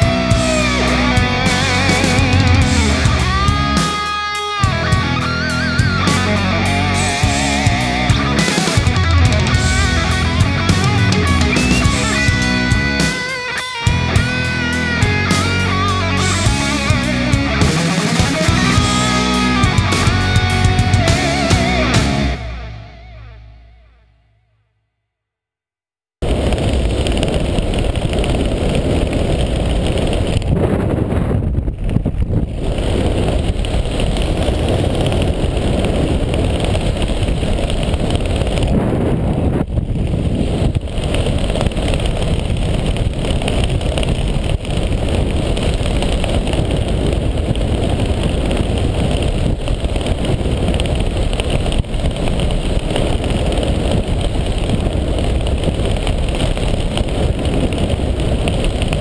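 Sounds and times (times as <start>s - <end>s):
wind buffeting microphone: 0.0s - 23.3s, 26.2s - 59.0s.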